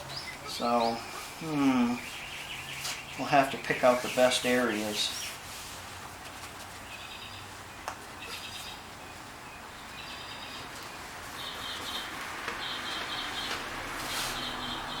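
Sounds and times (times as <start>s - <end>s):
bird chirping: 0.0s - 5.4s, 6.4s - 15.0s.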